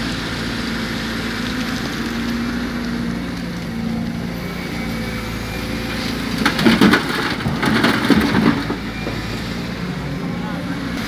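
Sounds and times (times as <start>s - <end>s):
excavator diesel engine running: 0.0s - 11.0s
bucket crunching earth and stones: 0.1s - 10.2s.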